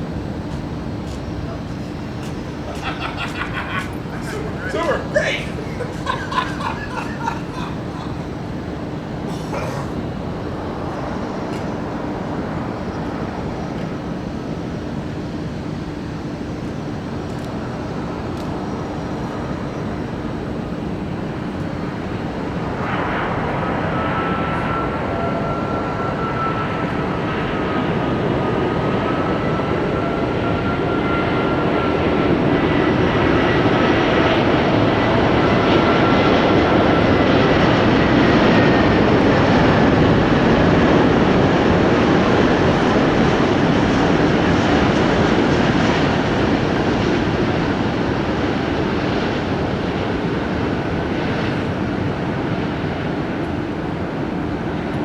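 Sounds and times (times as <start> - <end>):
high wavering whine: 0.0 - 46.7
jet engines roaring: 0.0 - 55.0.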